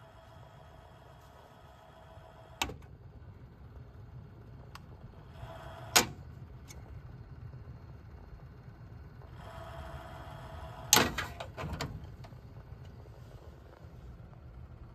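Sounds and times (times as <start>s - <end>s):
computer fans humming: 0.0s - 14.9s
fan growling buzz: 0.0s - 14.9s.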